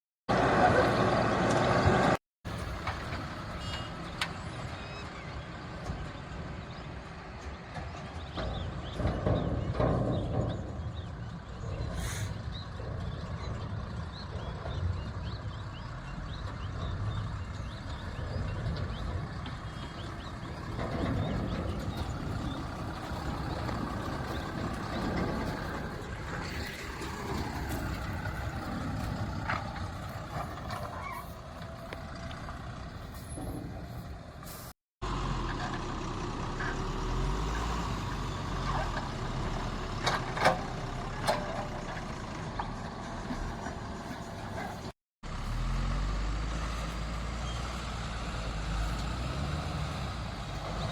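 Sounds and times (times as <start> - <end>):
backhoe loader engine digging: 0.3 - 50.9.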